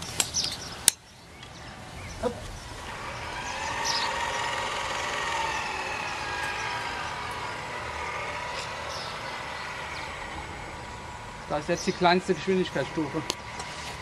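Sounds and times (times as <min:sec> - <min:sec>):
small motor whining: 0:01.8 - 0:14.0.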